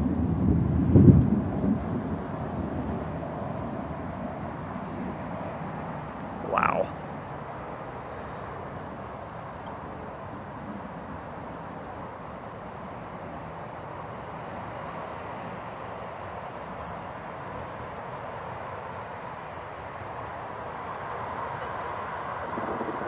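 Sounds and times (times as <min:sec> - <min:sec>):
insects calling: 0:00.1 - 0:23.0
frogs calling: 0:04.4 - 0:23.0.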